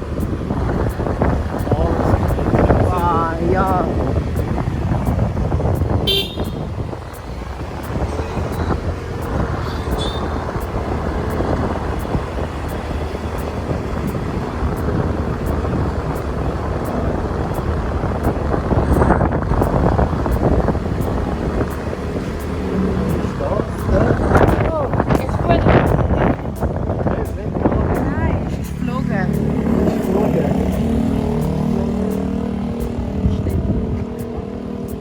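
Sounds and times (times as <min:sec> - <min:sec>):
motorbike engine running: 0:00.0 - 0:35.0
road rumble: 0:00.0 - 0:35.0.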